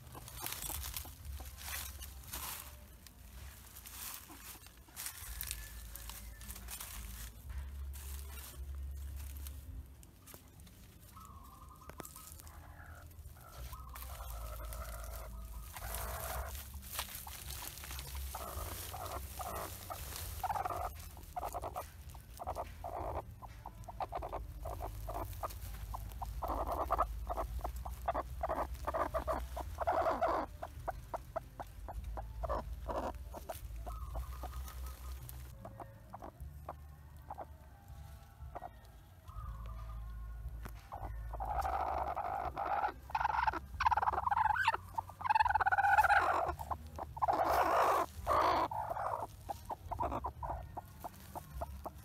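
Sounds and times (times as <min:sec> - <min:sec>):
hens clucking: 0:00.0 - 0:52.0
rustling of sack and dry leaves: 0:00.0 - 0:52.0.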